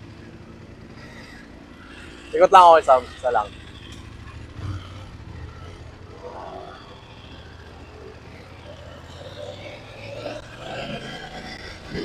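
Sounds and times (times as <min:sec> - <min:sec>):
motorcycle engine pulling away: 0:00.0 - 0:12.0.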